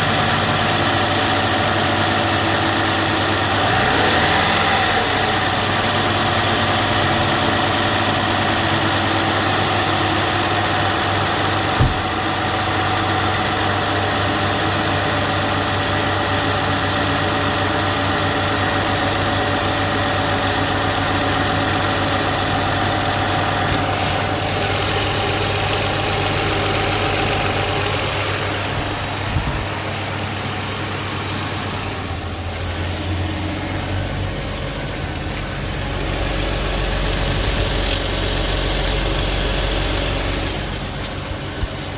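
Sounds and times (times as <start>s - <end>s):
car engine idling with ticking: 0.0s - 41.9s.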